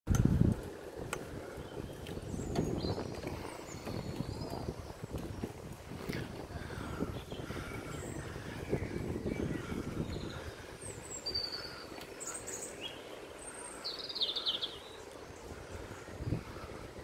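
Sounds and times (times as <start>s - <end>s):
songbirds chirping: 0.5s - 17.0s.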